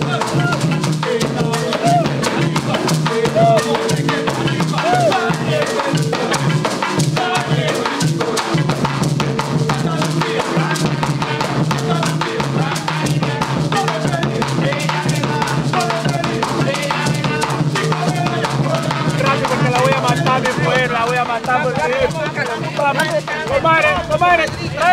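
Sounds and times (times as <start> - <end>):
dense drum beat: 0.0 - 24.9
marimba band playing: 0.0 - 24.9.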